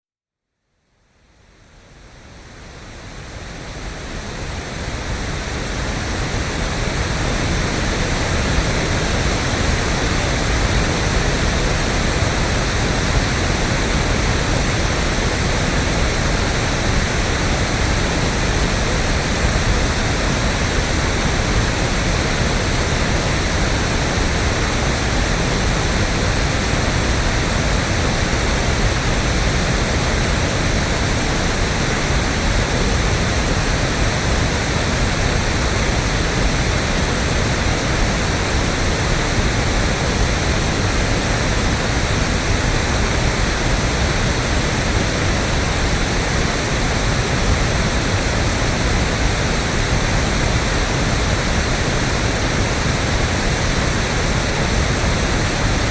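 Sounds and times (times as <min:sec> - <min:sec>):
pink noise hiss: 0:02.1 - 0:55.9.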